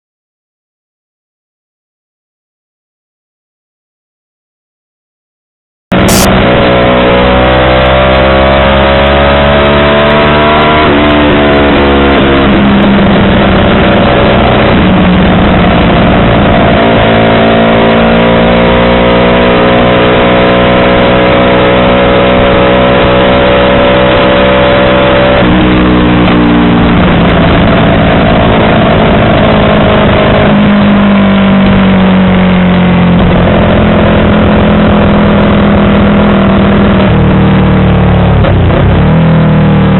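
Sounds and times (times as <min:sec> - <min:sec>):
motorcycle engine revving through gears: 0:05.9 - 0:39.9.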